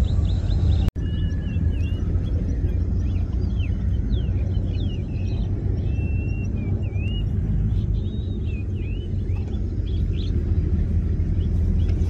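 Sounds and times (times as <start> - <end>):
birds whistling and chirping: 0.0 - 12.0
steady low rumble: 0.0 - 12.0.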